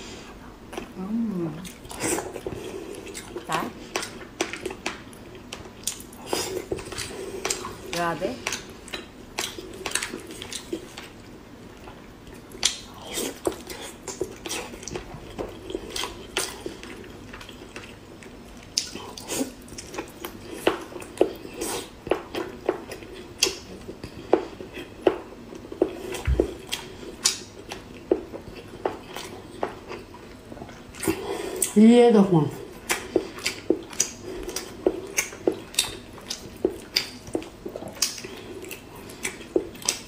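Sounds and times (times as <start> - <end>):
wet chewing with mouth clicks: 0.6 - 31.8, 32.6 - 40.0.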